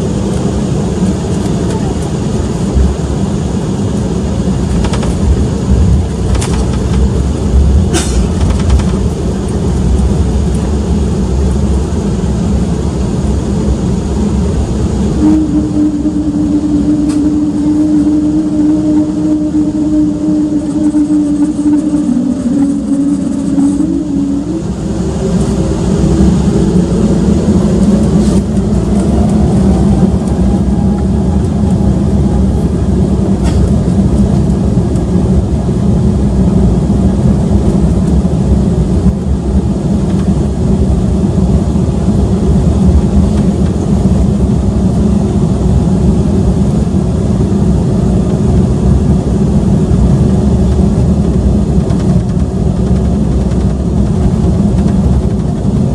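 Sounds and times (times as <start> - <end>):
jet engines spooling up: 0.0 - 55.9
loud jet engine roar: 0.0 - 55.9.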